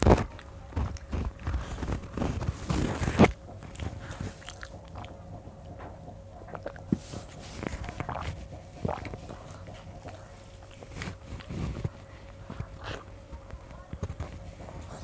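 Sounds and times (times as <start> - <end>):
rustling noise: 0.0 - 4.5, 6.8 - 15.0
chewing: 0.0 - 15.0
fingers working rice on a plate: 0.0 - 15.0.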